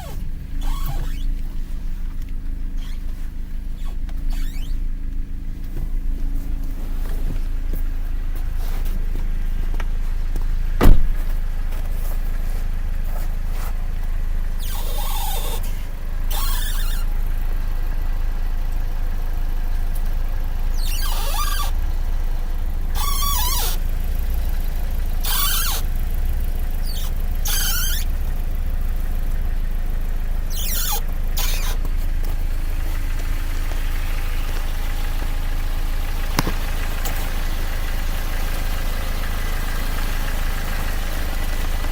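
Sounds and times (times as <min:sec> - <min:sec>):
car squeaking: 0:00.0 - 0:17.5, 0:20.6 - 0:29.0, 0:29.8 - 0:41.9.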